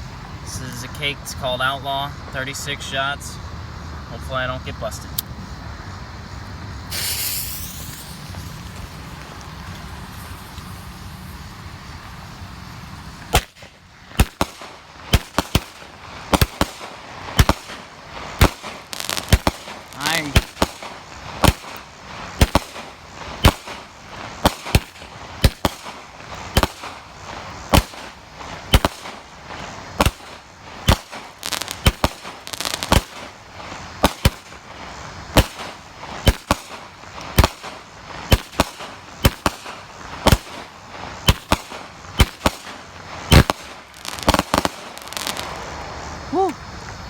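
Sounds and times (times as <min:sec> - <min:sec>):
firework crackling: 0:05.6 - 0:47.0
firework bangs: 0:06.8 - 0:46.2.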